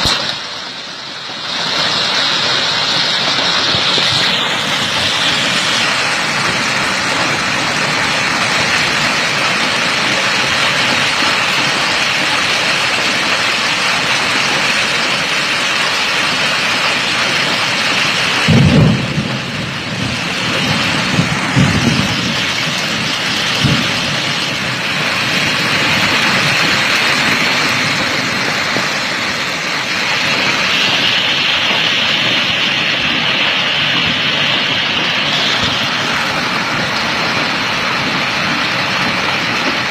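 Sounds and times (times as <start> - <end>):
hail and rain pelting: 0.0 - 39.9.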